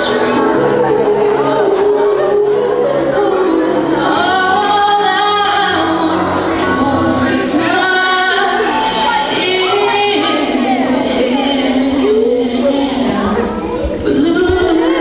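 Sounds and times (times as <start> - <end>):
song with female vocals: 0.0 - 15.0.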